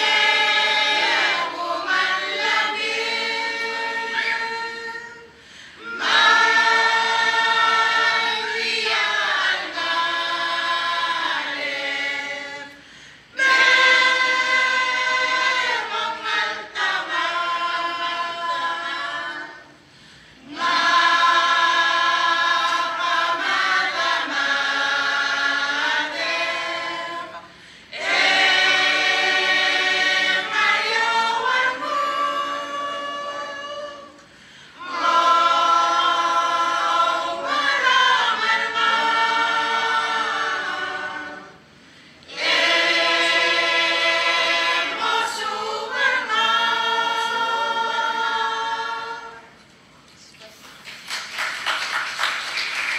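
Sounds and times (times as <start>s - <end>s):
mixed choir singing: 0.0s - 49.6s.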